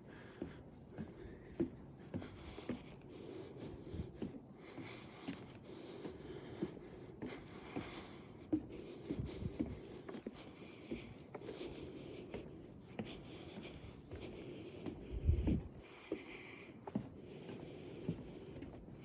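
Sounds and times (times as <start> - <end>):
footsteps on wooden boardwalk: 0.0 - 19.0.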